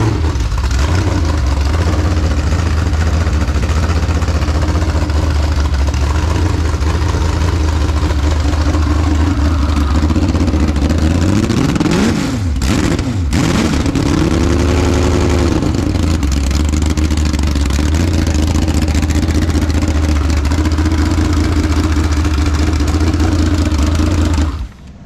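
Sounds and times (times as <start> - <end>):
engine revving and idling: 0.0 - 25.0.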